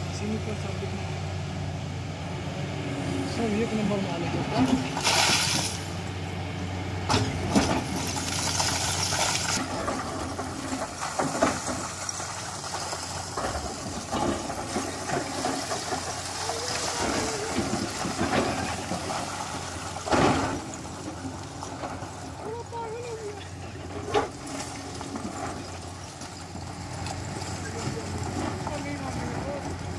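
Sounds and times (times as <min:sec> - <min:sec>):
excavator engine hum: 0:00.0 - 0:29.9.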